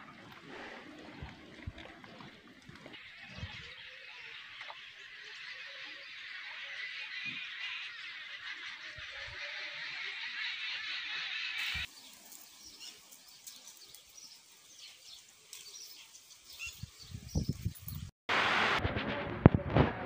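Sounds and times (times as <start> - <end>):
birds chirping: 0.0 - 18.1.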